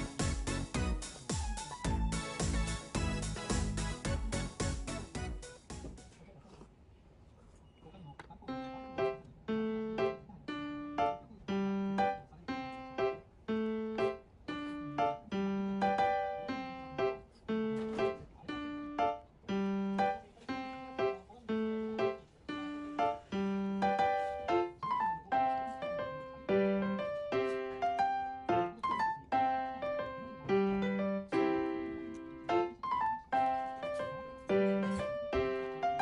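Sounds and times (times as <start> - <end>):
keyboard playing light tune: 0.0 - 6.2, 8.4 - 36.0.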